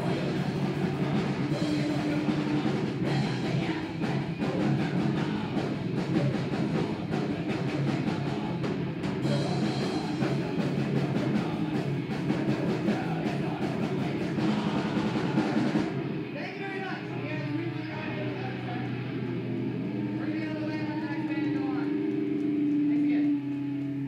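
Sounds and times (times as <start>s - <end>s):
drum kit: 0.0s - 24.0s
live rock band playing: 0.0s - 24.0s.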